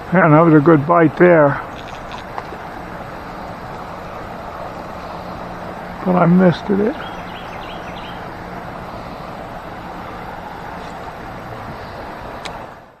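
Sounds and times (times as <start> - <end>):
creek water running: 0.0 - 12.9.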